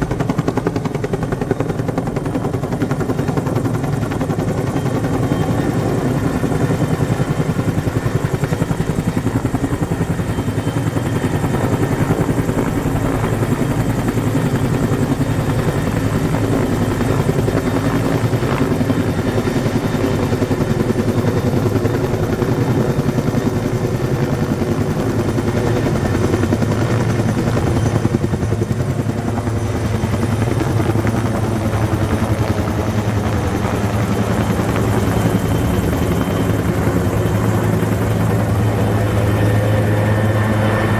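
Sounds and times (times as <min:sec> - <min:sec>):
helicopter rotor beating: 0:00.0 - 0:40.9.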